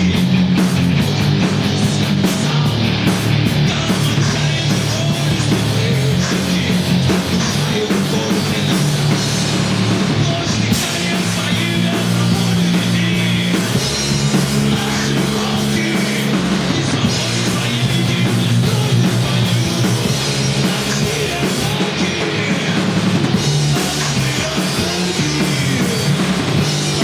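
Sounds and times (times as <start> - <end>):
electric guitar: 0.0 - 27.0
rock band playing: 0.0 - 27.0.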